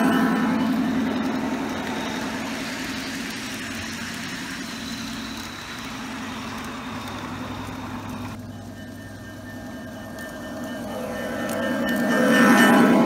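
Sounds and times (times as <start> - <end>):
model train wheels rolling: 0.0 - 13.0.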